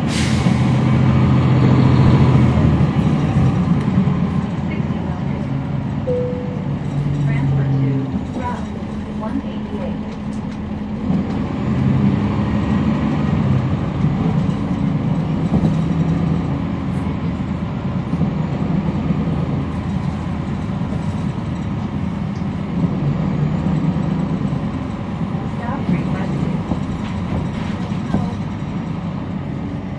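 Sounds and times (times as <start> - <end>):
bus diesel engine drone: 0.0 - 29.9.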